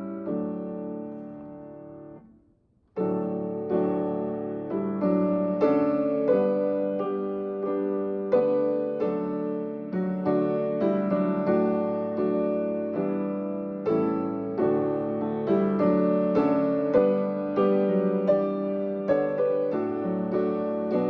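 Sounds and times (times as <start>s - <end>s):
piano playing slow chords: 0.0s - 21.0s.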